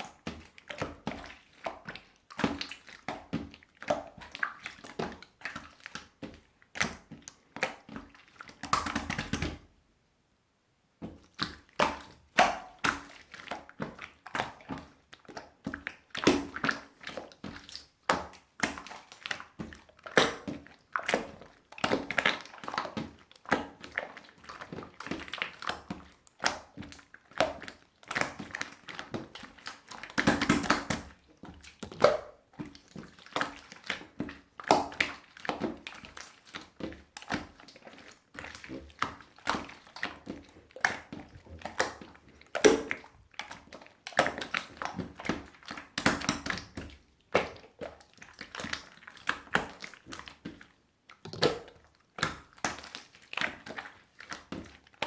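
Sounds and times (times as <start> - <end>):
slime squelching and popping: 0.0 - 9.7, 11.0 - 55.0.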